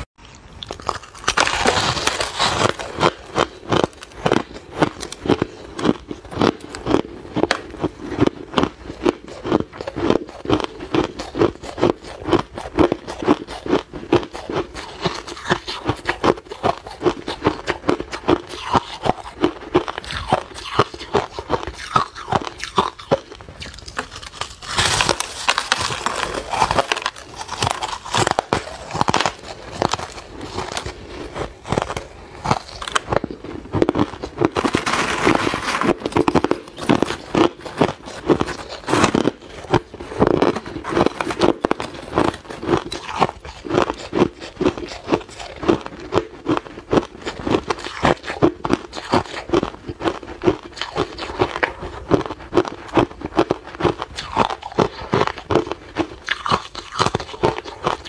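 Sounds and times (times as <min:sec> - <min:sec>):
ice crunching while chewed: 0:00.0 - 0:58.0.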